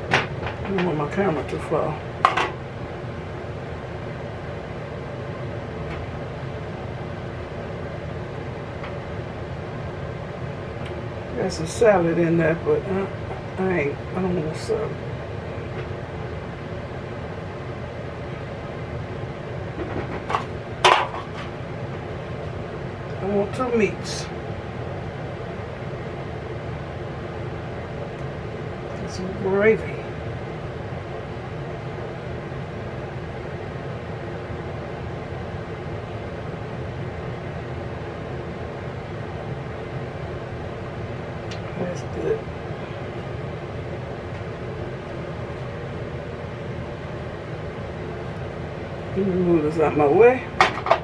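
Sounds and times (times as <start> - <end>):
kitchen hum: 0.0 - 33.5, 40.0 - 51.0.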